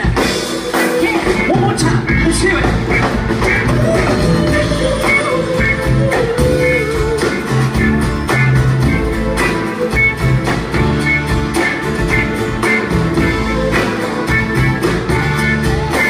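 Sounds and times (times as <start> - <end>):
drum beat: 0.0 - 16.0
rock band playing: 0.0 - 16.0.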